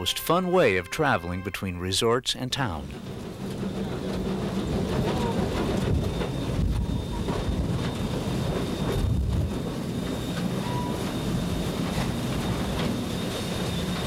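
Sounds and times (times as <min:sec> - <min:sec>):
rail sounds: 0:00.0 - 0:14.0
steam locomotive running: 0:00.0 - 0:14.0.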